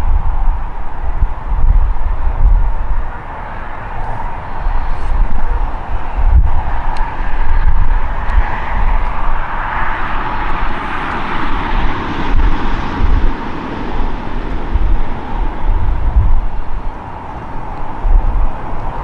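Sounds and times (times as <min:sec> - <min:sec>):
jet engine roar: 0:00.0 - 0:19.0
wind buffeting microphone: 0:00.0 - 0:19.0.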